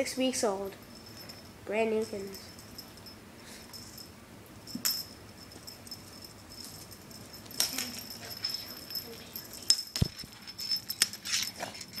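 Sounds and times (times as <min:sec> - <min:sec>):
small metal bell jingling: 0:00.0 - 0:12.0.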